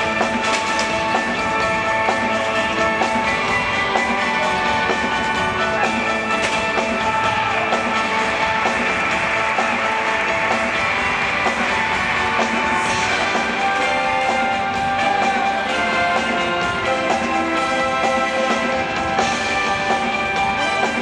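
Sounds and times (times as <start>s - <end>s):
guitar: 0.0s - 21.0s
rock music: 0.0s - 21.0s
steady drum beat: 0.0s - 21.0s.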